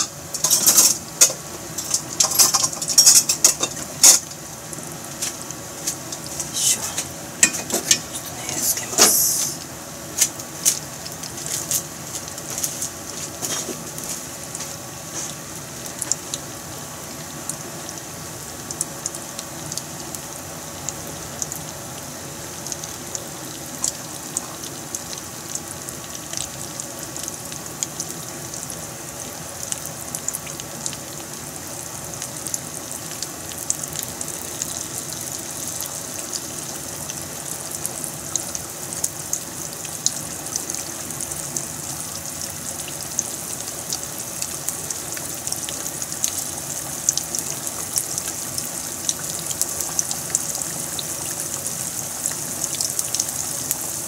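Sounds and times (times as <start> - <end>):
oil crackling and popping: 0.0 - 8.2, 8.9 - 54.0
chicken sizzling in oil: 0.0 - 54.0.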